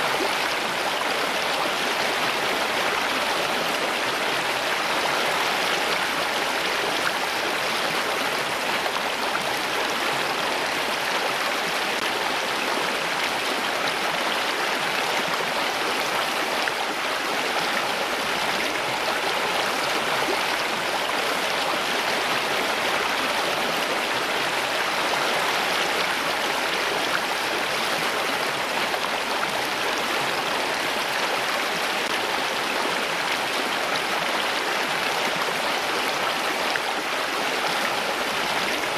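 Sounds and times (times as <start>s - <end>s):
water rushing in a stream: 0.0s - 38.9s.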